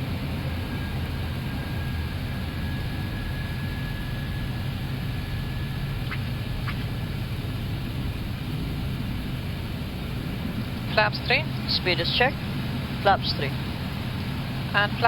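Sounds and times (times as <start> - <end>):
low rumble of airflow and engines: 0.0 - 15.0.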